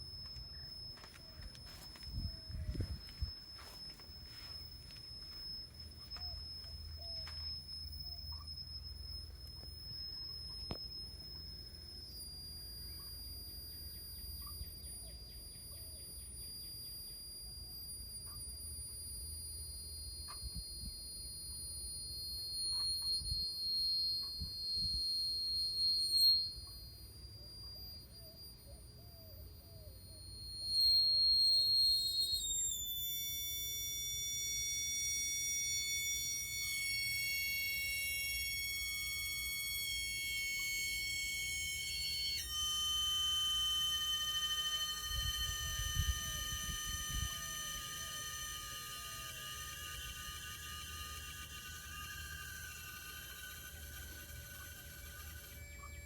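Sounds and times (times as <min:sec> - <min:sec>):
air conditioner chirping: 0:00.0 - 0:56.0
steady low hum: 0:00.0 - 0:56.0.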